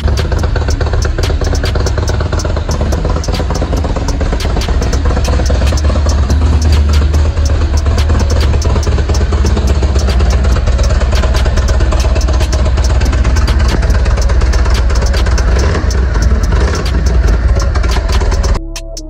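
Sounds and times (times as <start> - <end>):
motorcycle engine idling: 0.0 - 18.6.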